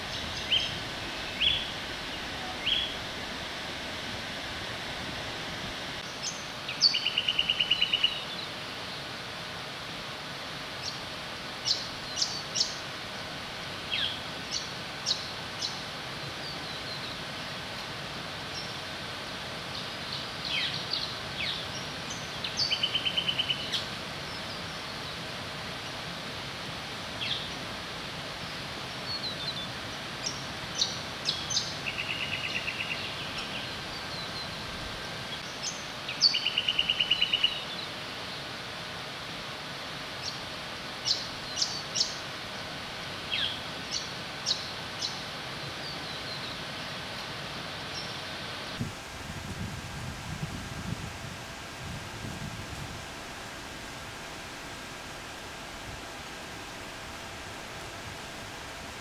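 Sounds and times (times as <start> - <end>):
outdoor hiss: 0.0 - 59.0.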